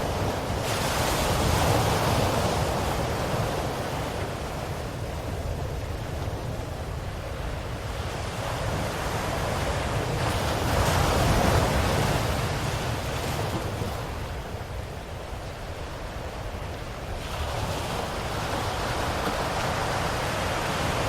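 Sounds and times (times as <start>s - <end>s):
low rumble of surf: 0.0s - 21.0s
ocean waves washing ashore: 0.0s - 21.0s.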